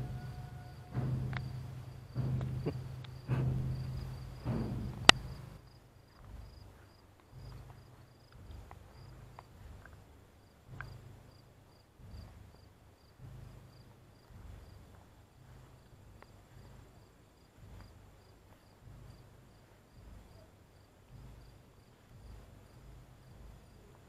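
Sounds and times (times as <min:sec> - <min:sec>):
footsteps thudding: 0:00.0 - 0:23.8
crickets chirping: 0:00.0 - 0:24.0.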